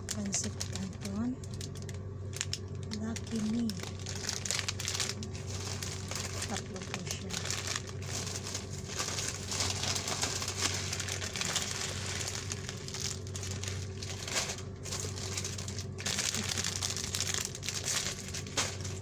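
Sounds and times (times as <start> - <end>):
plastic food packets crinkling: 0.0 - 19.0
steady low hum: 0.0 - 19.0.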